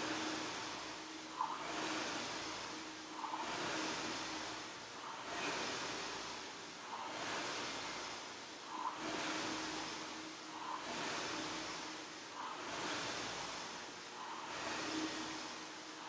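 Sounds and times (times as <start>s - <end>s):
rowing machine flywheel whooshing: 0.0s - 16.0s.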